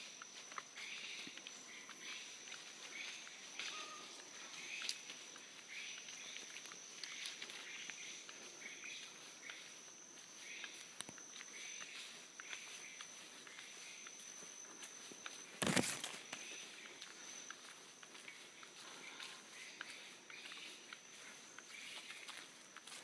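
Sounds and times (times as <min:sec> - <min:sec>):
footsteps brushing through plants: 0:00.0 - 0:23.0
steady high-pitched whine: 0:00.0 - 0:23.0.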